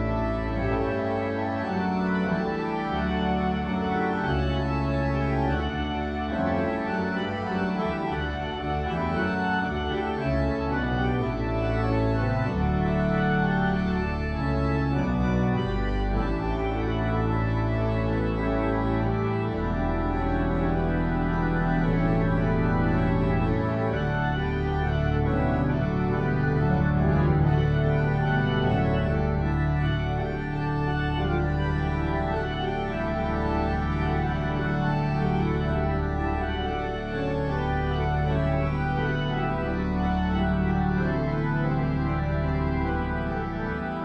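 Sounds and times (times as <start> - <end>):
organ chords over bass line: 0.0 - 44.0.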